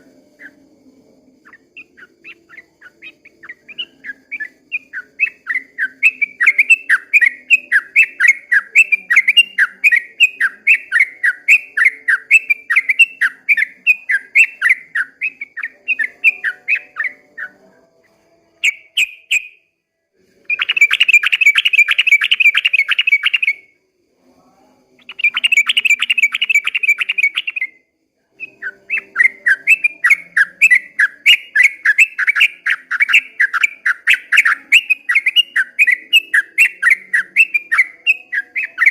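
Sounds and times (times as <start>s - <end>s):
bird singing repeated notes: 0.0s - 19.7s, 20.4s - 23.7s, 25.0s - 38.9s.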